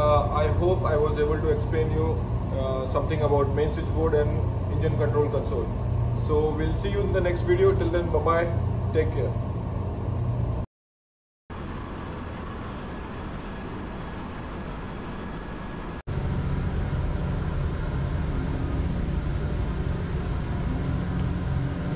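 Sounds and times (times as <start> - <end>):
deep steady hum: 0.0 - 10.7, 11.5 - 21.9
engine room machinery din: 0.0 - 10.7, 11.5 - 21.9.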